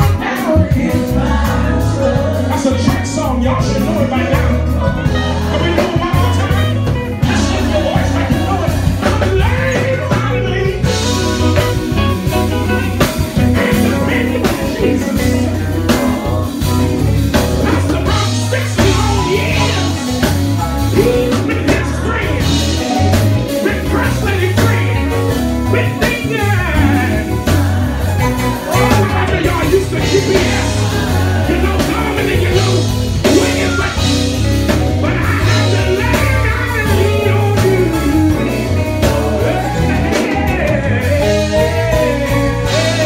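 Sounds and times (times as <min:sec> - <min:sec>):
bass guitar: 0:00.0 - 0:43.0
drums: 0:00.0 - 0:43.0
electric guitar: 0:00.0 - 0:43.0
gospel group singing: 0:00.0 - 0:43.0
keyboard: 0:00.0 - 0:43.0.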